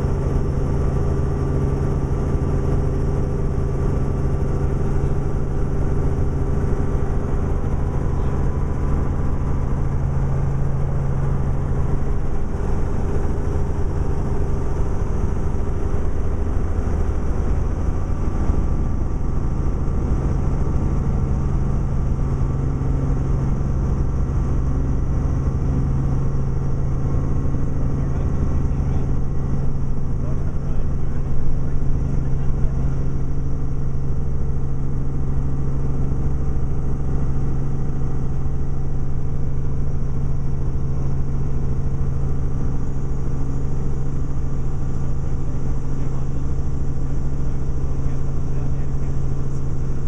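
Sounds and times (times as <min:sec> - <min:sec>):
helicopter engine and rotor: 0:00.0 - 0:50.0.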